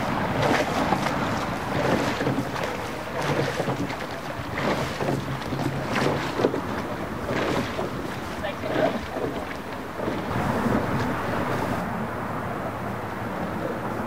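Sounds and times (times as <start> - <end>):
oars in water: 0.0 - 12.0
wind buffeting microphone: 0.0 - 14.0.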